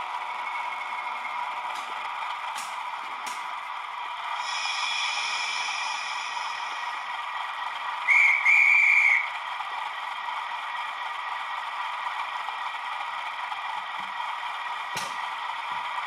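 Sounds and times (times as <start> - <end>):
diesel engine idling hum: 0.0 - 16.0.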